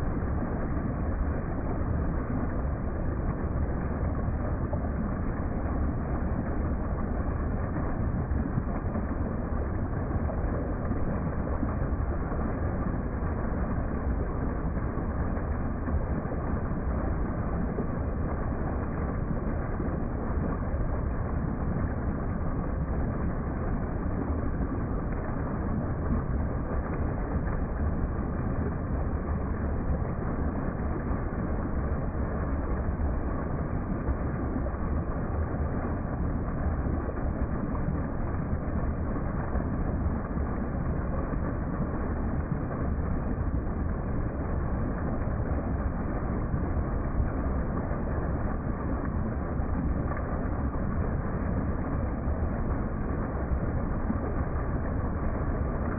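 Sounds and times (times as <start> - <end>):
small waterfall splashing into pool: 0.0 - 55.9.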